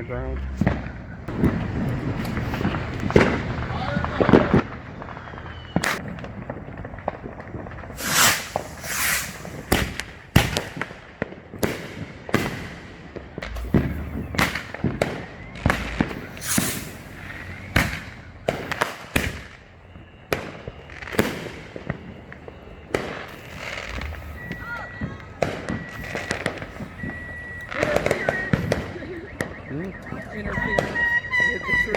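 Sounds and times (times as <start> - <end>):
fireworks bangs and crackling: 0.0 - 31.9
whistling firework rises: 0.6 - 10.9, 11.6 - 31.9.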